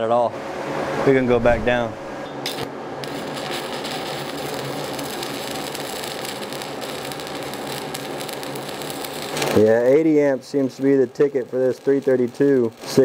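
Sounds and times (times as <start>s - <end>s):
welding arc crackling sizzle: 1.4s - 13.0s.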